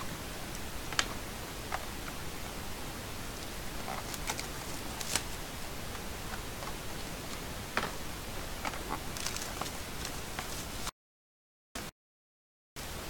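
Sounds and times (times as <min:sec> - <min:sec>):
steady background hiss: 0:00.0 - 0:10.9, 0:12.8 - 0:13.0.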